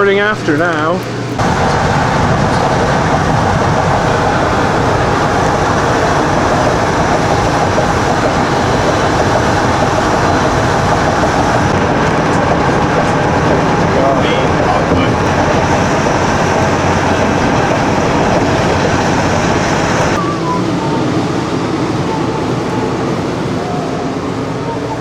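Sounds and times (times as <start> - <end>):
vehicle rumbling and rattling: 1.1 - 25.0.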